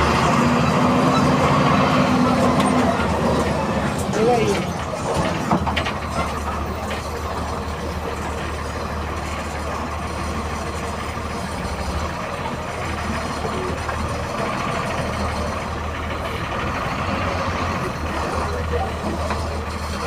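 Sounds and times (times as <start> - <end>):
diesel bus engine humming: 0.0 - 20.0.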